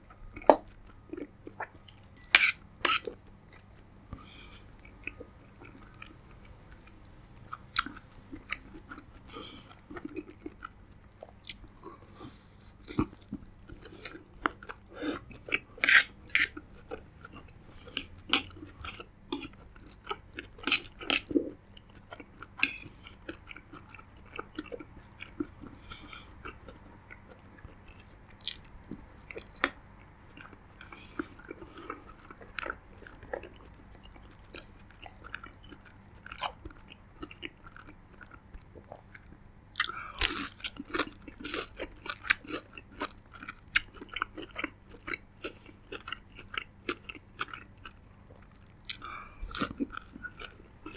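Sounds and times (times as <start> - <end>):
person chewing and biting food: 0.0 - 50.9.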